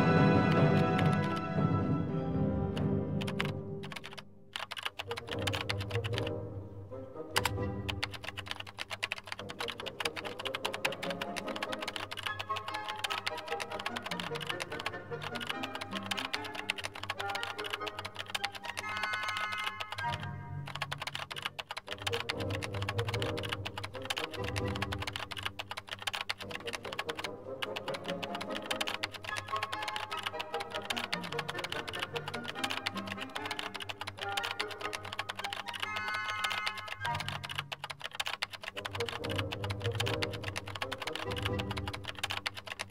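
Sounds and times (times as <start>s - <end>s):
rapid keyboard typing: 0.0s - 1.6s, 2.7s - 6.4s, 7.3s - 42.9s
background music: 0.0s - 42.9s.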